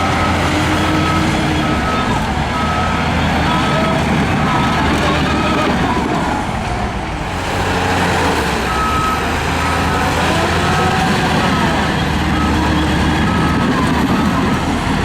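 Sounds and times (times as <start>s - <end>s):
reversing alarm beeping: 0.0s - 6.4s, 7.3s - 15.0s
heavy diesel machinery running: 0.0s - 15.0s.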